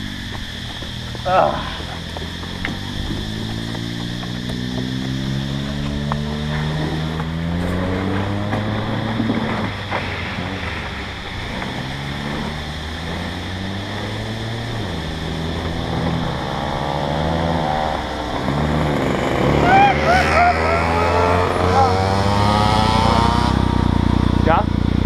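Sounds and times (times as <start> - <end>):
go-kart engine idling: 0.0 - 7.7, 8.4 - 25.0.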